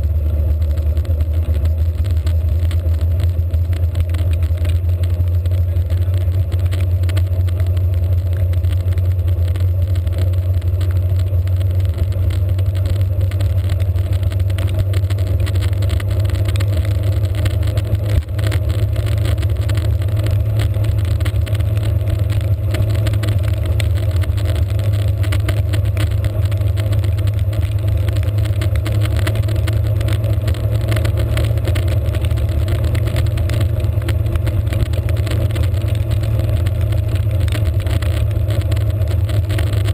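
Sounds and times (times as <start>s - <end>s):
road vibration rumble: 0.0s - 39.9s.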